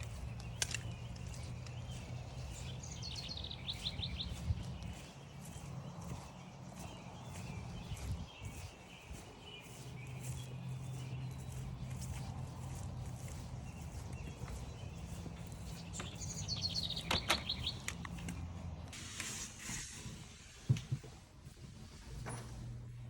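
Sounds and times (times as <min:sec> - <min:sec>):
bird singing falling notes: 0:00.0 - 0:18.5
footsteps crunching on trail: 0:00.0 - 0:19.0.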